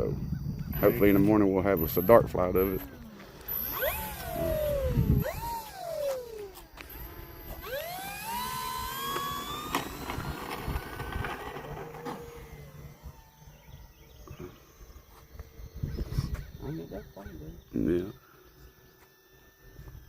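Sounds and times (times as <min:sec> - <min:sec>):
model plane motor whining: 0:00.7 - 0:20.0.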